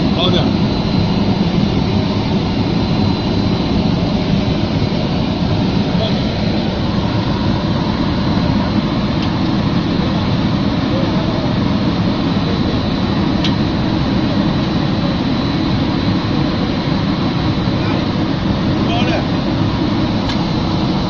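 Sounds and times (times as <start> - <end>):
industrial dryer drone: 0.0 - 21.0.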